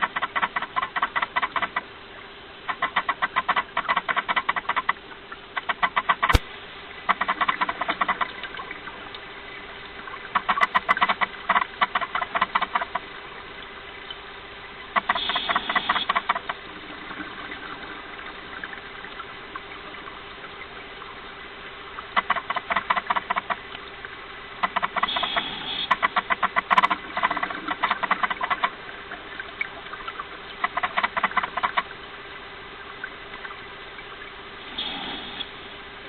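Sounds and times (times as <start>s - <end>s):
crackling bubbles underwater: 0.0s - 36.0s.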